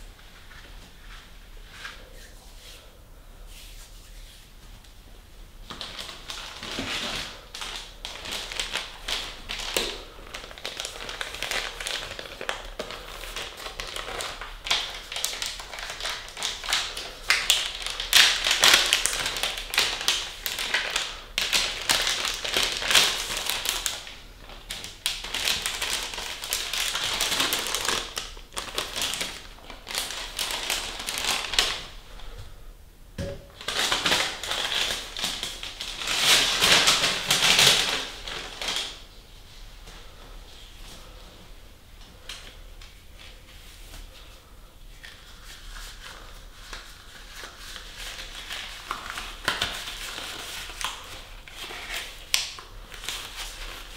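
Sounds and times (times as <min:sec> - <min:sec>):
paper crinkling and rustling: 0:05.6 - 0:32.0, 0:33.5 - 0:39.1, 0:42.0 - 0:53.9.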